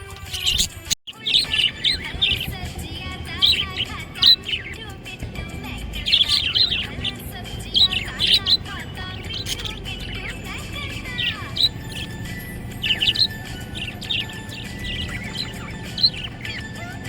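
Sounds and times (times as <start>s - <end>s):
budgerigar chirping: 0.2s - 17.0s.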